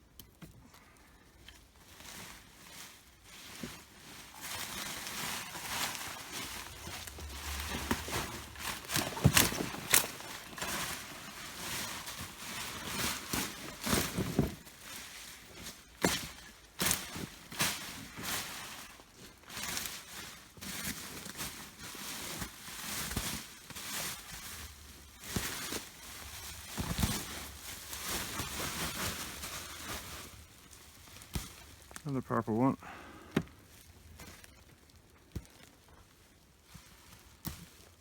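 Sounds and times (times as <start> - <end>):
digging in loose soil: 0.0 - 38.0.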